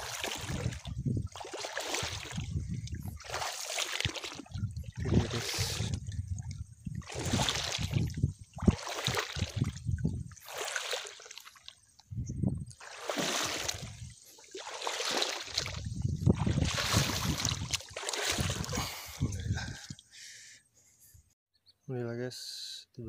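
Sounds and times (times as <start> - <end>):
water sloshing from wading: 0.0 - 20.1.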